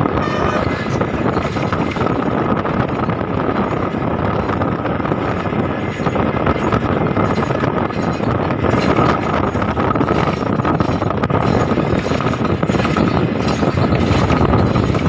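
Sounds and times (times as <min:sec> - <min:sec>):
vehicle engine and road noise: 0:00.0 - 0:15.0
wind buffeting microphone: 0:00.0 - 0:15.0.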